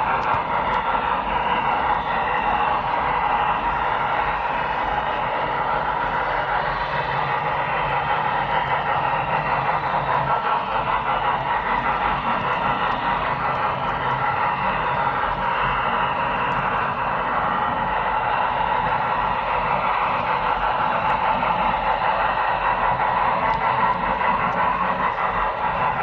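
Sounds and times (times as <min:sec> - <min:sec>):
model train motor whirring: 0:00.0 - 0:26.0.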